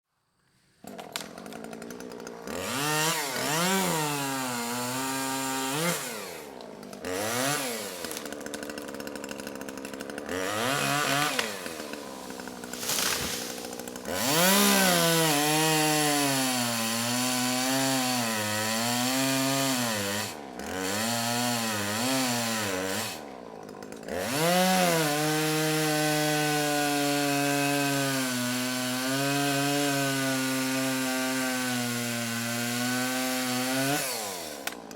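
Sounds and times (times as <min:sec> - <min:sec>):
chainsaw engine revving: 0:00.8 - 0:34.9.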